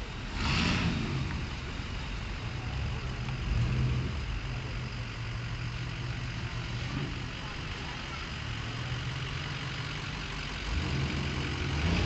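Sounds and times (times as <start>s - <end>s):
cars rumbling past slowly: 0.0s - 12.0s.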